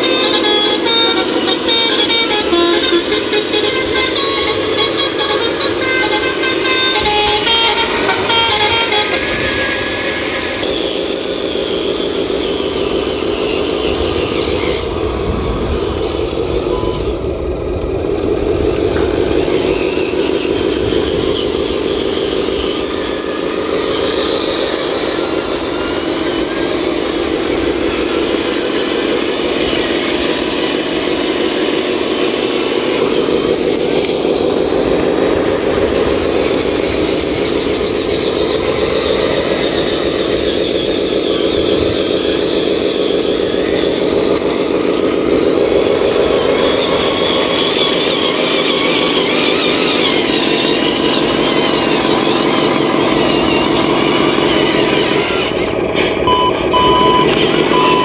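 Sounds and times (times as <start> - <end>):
electric motor buzzing whine: 0.0 - 58.0.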